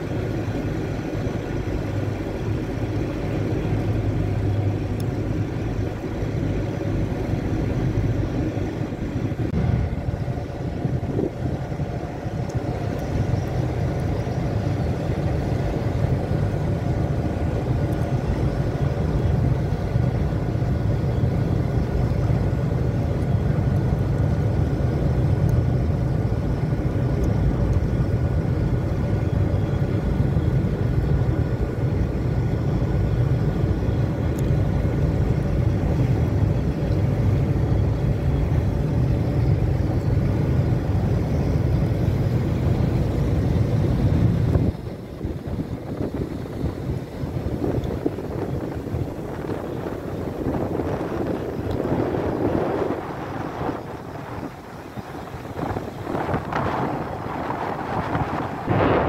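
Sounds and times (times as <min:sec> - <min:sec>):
faint steady whine: 0:00.0 - 0:59.0
ship engines rumbling: 0:00.0 - 0:59.0.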